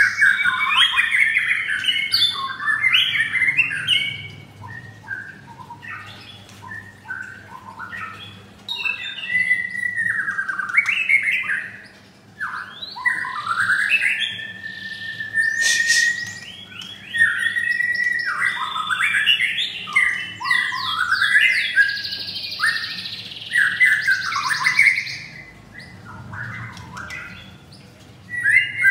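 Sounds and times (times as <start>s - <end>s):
birds singing whistled phrases: 0.0s - 28.9s.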